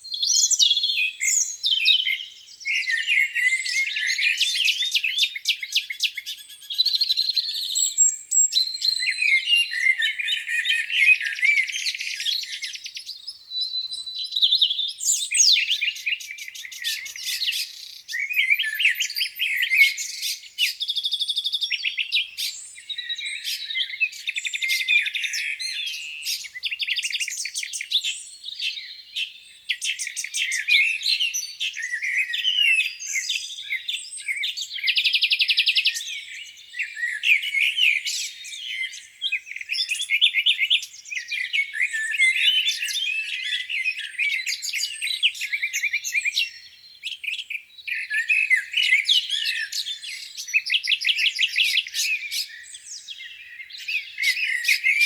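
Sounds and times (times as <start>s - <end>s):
songbirds chorus: 0.0s - 55.0s.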